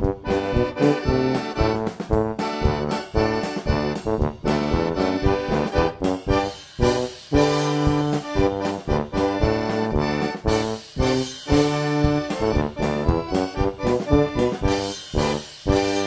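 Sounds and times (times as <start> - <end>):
upbeat instrumental music: 0.0 - 16.0.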